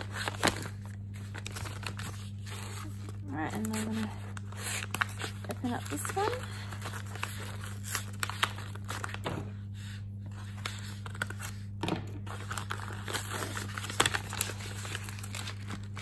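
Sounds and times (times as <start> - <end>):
paper mailer tearing and crinkling: 0.0 - 9.2, 10.3 - 16.0
steady low hum: 0.0 - 16.0.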